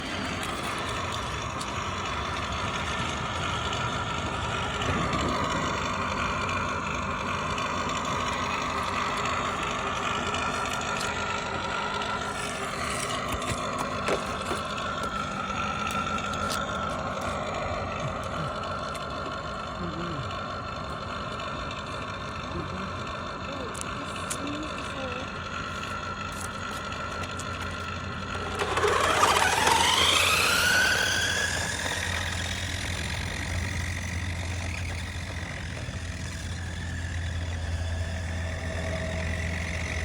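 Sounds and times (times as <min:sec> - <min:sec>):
toy car electric motor whining: 0:00.0 - 0:40.0.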